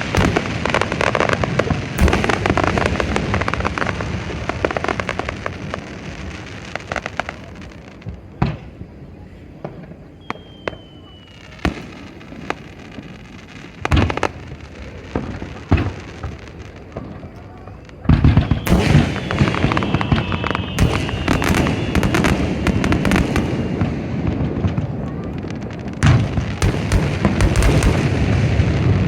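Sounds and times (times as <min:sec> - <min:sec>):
fireworks bangs: 0:00.0 - 0:29.0
fireworks crackling and popping: 0:00.0 - 0:29.0.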